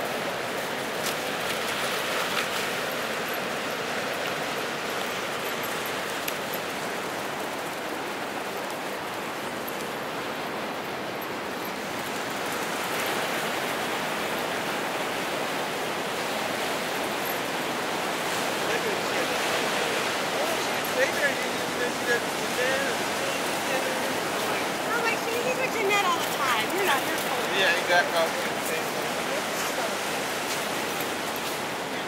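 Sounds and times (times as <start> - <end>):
ocean surf washing ashore: 0.0 - 32.0.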